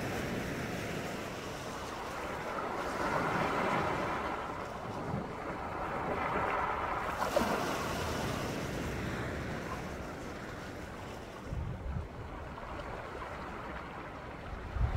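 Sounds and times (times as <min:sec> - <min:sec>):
waves washing onto beach: 0:00.0 - 0:14.9
wind buffeting microphone: 0:00.0 - 0:14.9.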